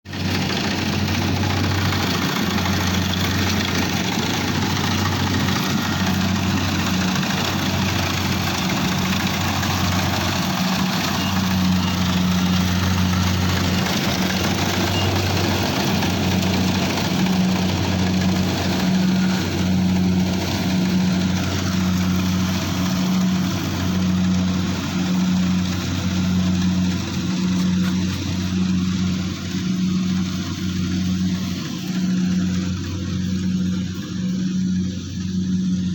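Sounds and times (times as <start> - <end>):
harvester engine droning: 0.1 - 35.9.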